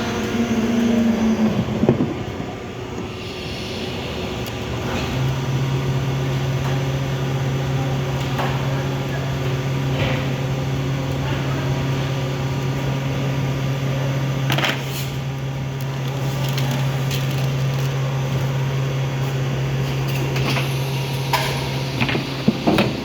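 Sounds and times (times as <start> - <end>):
injection moulding machine hum: 0.0 - 23.0.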